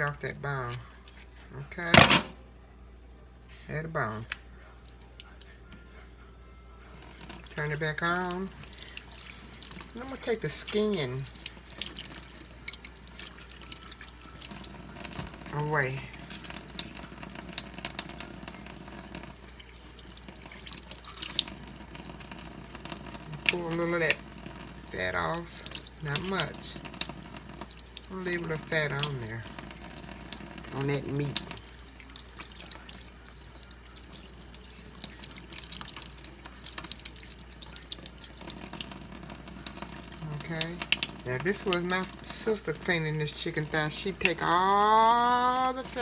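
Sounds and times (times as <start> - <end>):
tap water splashing into sink: 0.0 - 2.4, 7.1 - 46.0.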